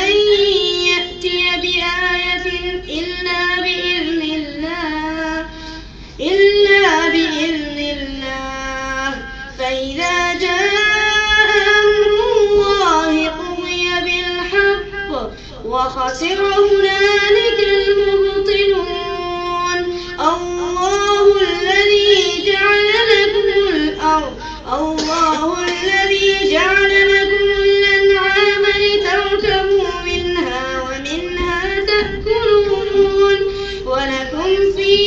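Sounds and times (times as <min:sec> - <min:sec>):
high voice reciting chant: 0:00.0 - 0:35.0.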